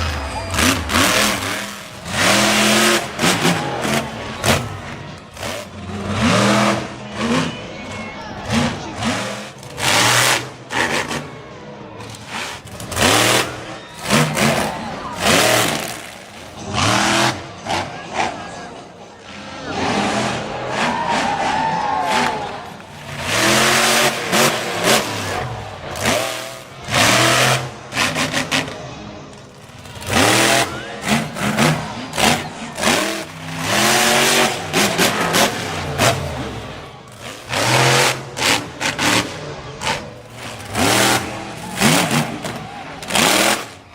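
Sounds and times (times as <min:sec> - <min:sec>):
monster truck engine revving: 0:00.0 - 0:43.9.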